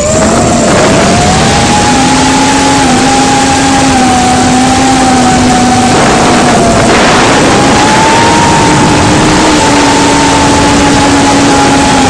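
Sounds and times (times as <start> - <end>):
drone motor whine: 0.0 - 12.0
wind rushing: 0.0 - 12.0.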